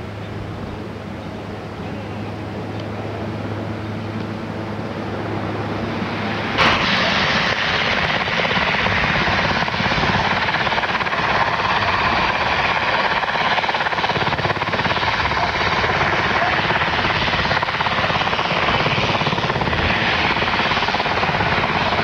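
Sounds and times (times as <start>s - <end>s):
helicopter flying overhead: 0.0s - 22.0s
rushing noise with low hum: 0.0s - 22.0s.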